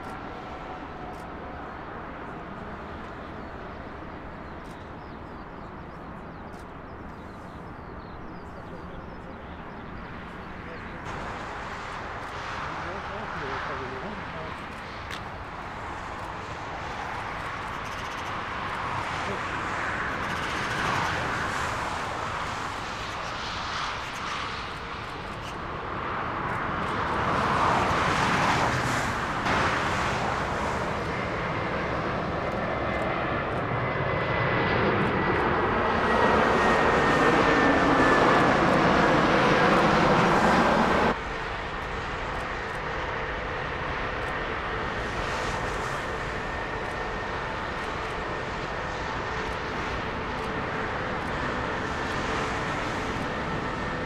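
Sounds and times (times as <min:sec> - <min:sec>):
jet airliner engines passing: 0:00.0 - 0:54.0.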